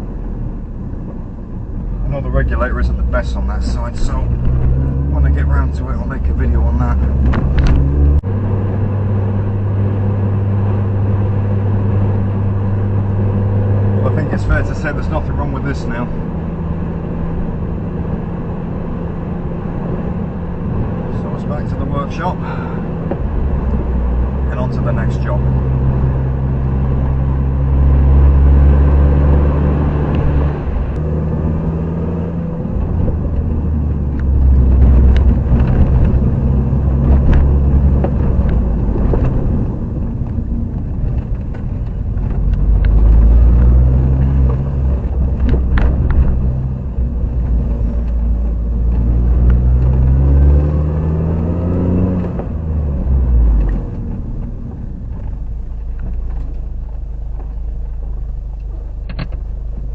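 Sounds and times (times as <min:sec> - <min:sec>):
car engine accelerating: 0:00.0 - 0:59.9
tyre and road rumble: 0:00.0 - 0:59.9.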